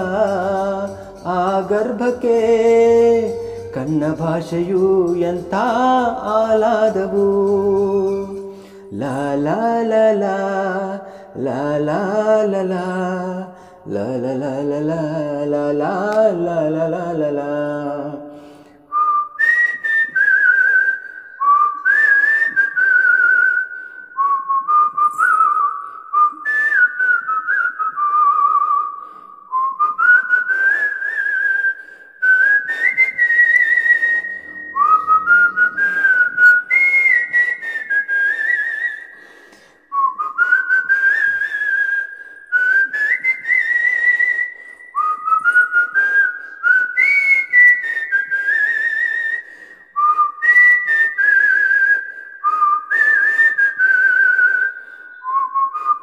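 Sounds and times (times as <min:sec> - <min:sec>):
man whistling a melody: 0:00.0 - 0:56.0.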